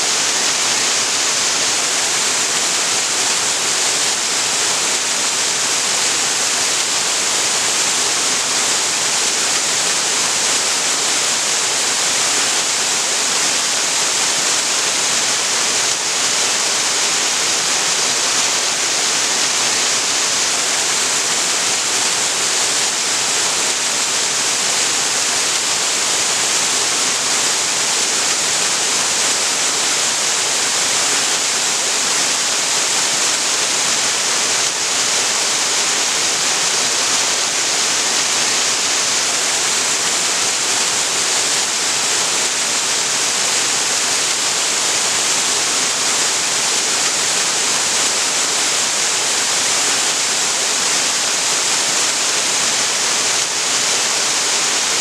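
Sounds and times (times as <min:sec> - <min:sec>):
waterfall splashing onto rocks: 0:00.1 - 0:55.0.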